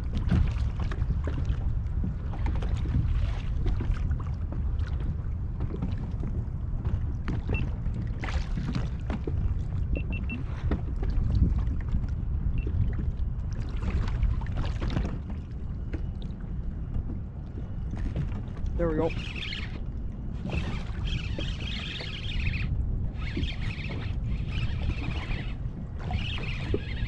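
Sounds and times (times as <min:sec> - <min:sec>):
water lapping against hull: 0:00.0 - 0:27.0.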